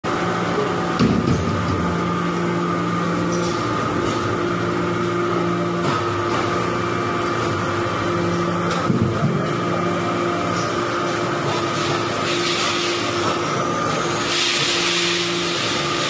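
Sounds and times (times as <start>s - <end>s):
hydraulic press humming: 0.0s - 16.0s.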